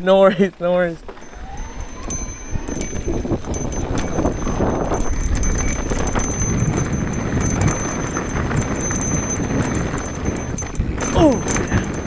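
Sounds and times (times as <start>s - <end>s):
bike rattles and clicks: 0.0s - 12.0s
bike tyres rumbling on dirt: 0.0s - 12.0s.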